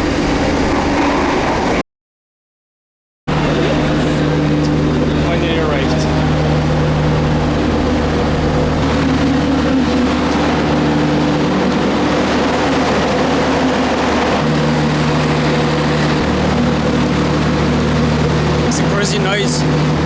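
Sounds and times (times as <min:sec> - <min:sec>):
diesel engine idling hum: 0:03.3 - 0:20.0.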